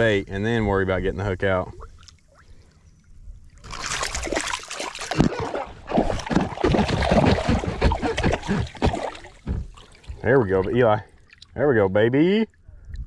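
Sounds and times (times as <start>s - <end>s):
water splashing and sloshing: 1.6s - 13.0s.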